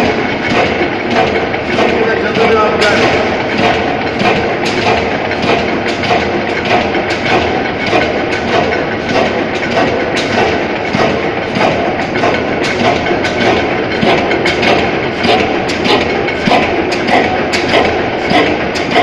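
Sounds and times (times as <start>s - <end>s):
stationary oil engine knocking: 0.0s - 19.0s.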